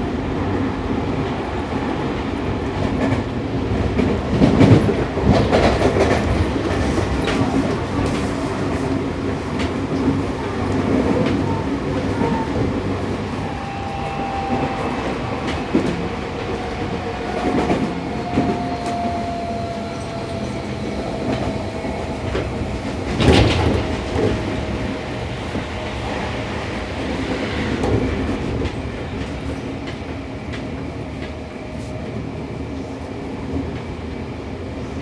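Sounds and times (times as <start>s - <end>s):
train wheel and rail noise: 0.0s - 35.0s
rail joint clicks: 1.0s - 35.0s.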